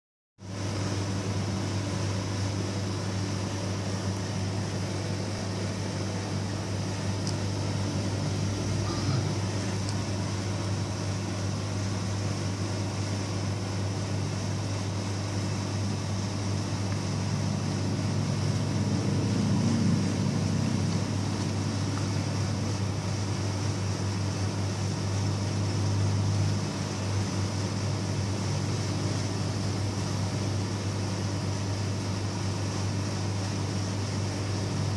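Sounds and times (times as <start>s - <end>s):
low mechanical hum: 0.4s - 34.9s.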